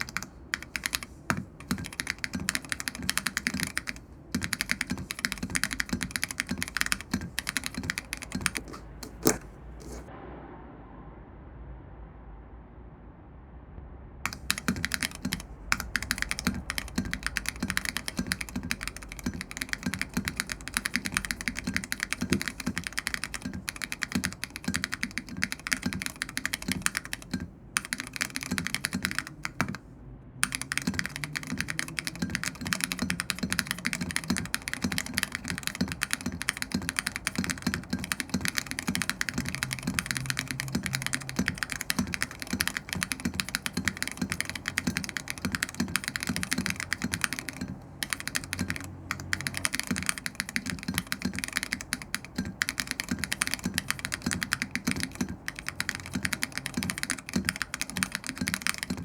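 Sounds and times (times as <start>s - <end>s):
mechanical keyboard typing: 0.0s - 10.1s, 14.3s - 59.0s.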